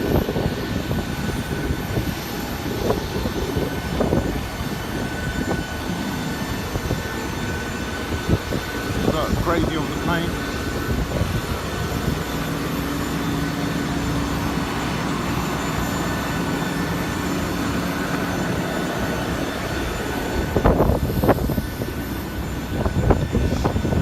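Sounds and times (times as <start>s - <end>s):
jet aircraft rumble and whine: 0.0s - 24.0s
faint steady tones: 0.6s - 24.0s.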